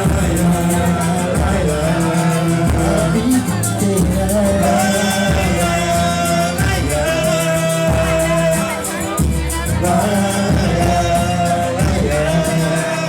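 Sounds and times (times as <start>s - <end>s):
band music with singing: 0.0s - 13.0s.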